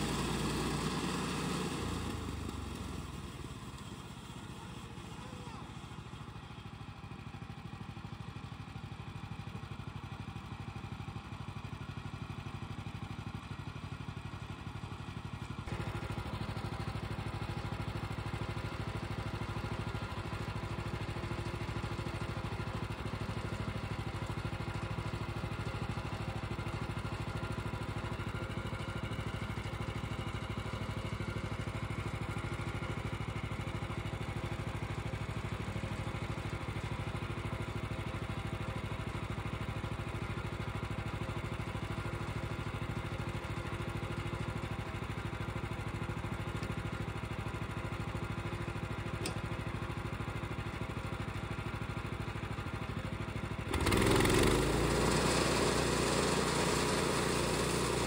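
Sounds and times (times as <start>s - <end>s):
gas engine running: 0.0s - 9.0s, 15.2s - 58.0s.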